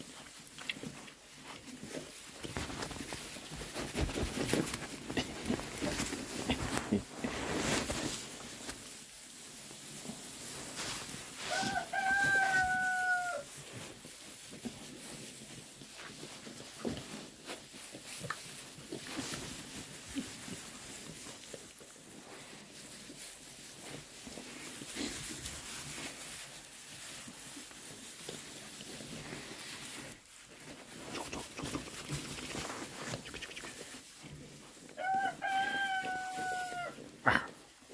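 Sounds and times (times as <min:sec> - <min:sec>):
piglets rustling in straw: 0:00.0 - 0:37.9.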